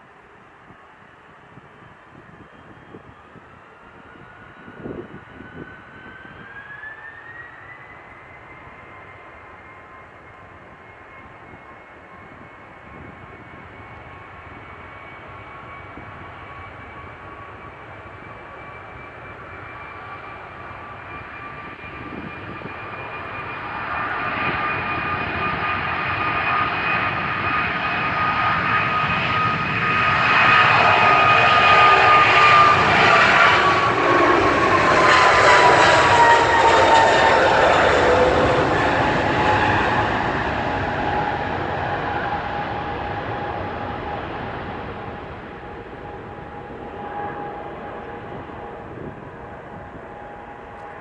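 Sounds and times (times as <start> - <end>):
jet engine whining tone: 0.2 - 51.0
jet engines roaring: 0.2 - 51.0.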